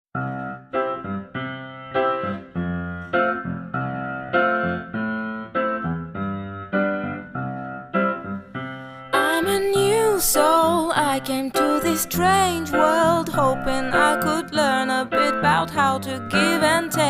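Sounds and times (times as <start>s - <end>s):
keyboard playing chords: 0.2s - 17.0s.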